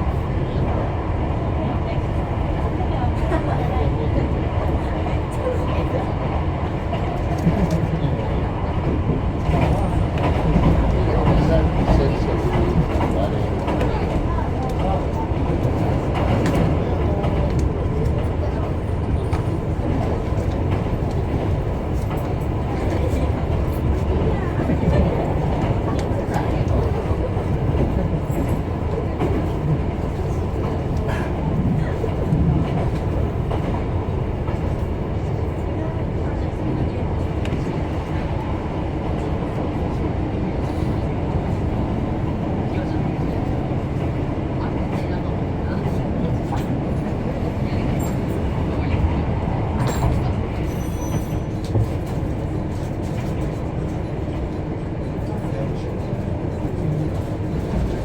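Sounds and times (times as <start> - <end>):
train engine and wheels rumbling: 0.0 - 58.0.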